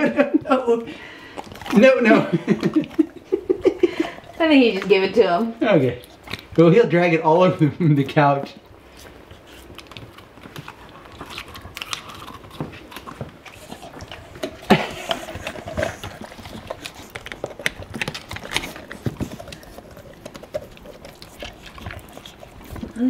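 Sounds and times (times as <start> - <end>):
puppy licking and gnawing: 0.0 - 23.0.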